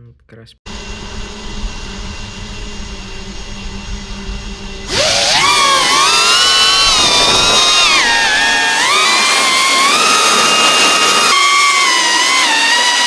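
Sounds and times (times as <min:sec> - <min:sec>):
low hum: 0:00.7 - 0:11.4
drone motors whining: 0:00.7 - 0:13.0.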